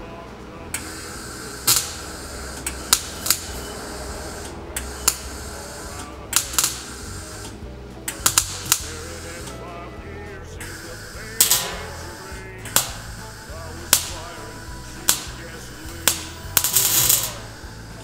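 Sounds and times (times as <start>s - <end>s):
steady low hum: 0.0s - 18.0s
welding torch crackling bursts: 0.8s - 9.7s, 10.6s - 18.0s.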